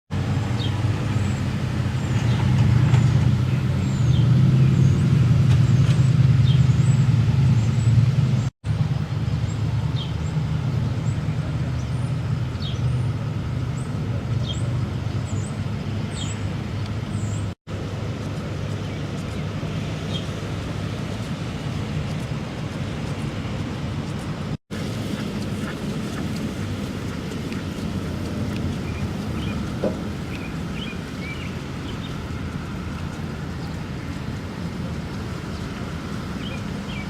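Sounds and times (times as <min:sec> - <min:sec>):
vehicle engine humming: 0:00.1 - 0:37.0.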